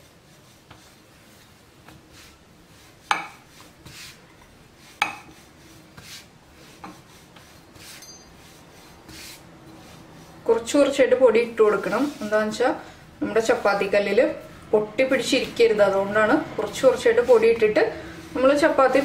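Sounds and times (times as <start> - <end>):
rolling pin rubbing on dough: 0.0 - 19.0.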